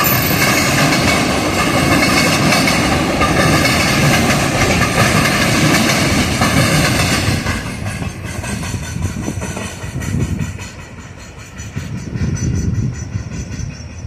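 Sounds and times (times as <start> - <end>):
freight train wheels clattering: 0.0 - 14.0.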